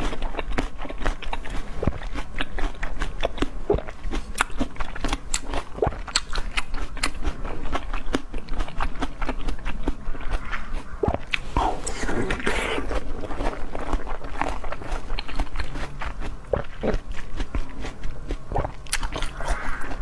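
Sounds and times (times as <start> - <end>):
person chewing crisp food: 0.0 - 20.0.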